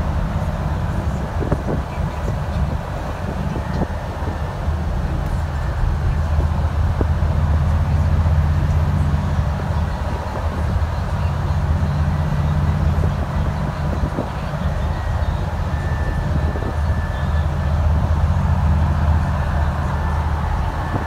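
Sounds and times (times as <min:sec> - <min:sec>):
bus diesel engine drone: 0:00.0 - 0:21.0
road noise: 0:00.0 - 0:21.0.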